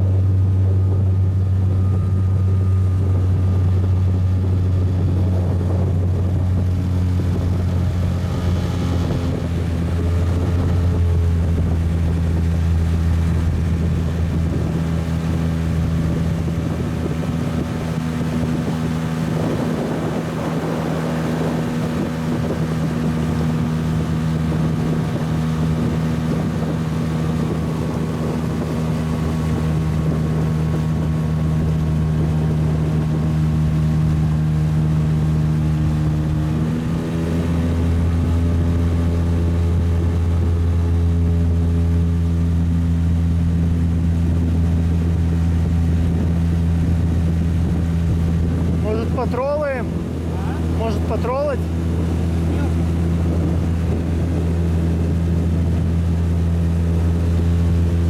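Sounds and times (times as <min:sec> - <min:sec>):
boat motor droning: 0:00.0 - 0:58.0.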